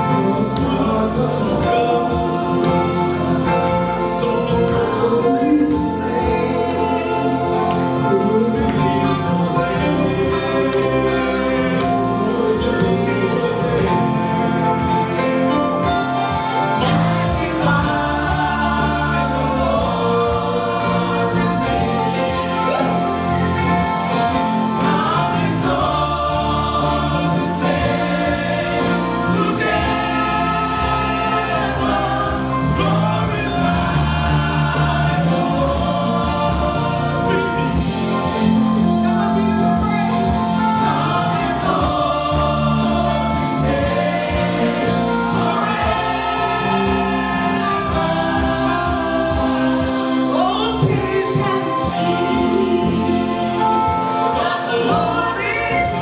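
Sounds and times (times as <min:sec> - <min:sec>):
gospel choir singing: 0:00.0 - 0:56.0.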